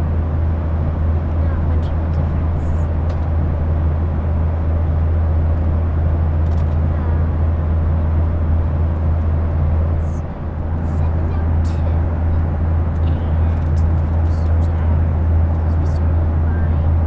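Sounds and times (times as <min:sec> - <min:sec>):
constant low hum: 0:00.0 - 0:17.0
jet engine and airflow rush: 0:00.0 - 0:17.0.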